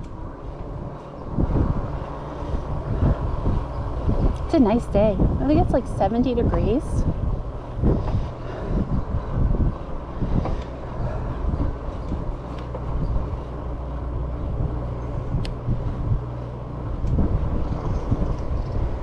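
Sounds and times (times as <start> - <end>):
tyre and road noise: 0.0 - 19.0
wind on microphone: 0.0 - 19.0.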